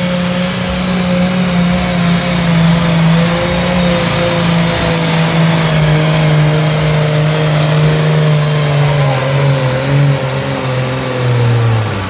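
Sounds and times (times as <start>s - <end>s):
diesel tractor engine running flat out: 0.0s - 12.0s.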